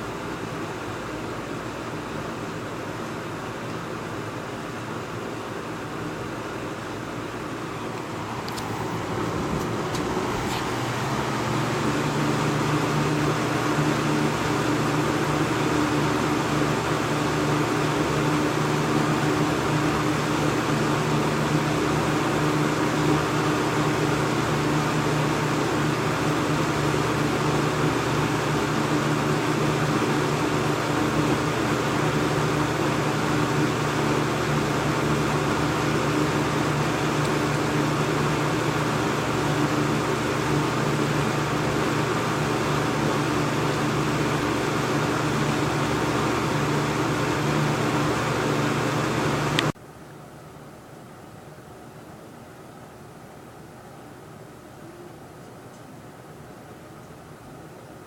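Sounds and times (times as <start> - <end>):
box fan running: 0.0 - 58.0.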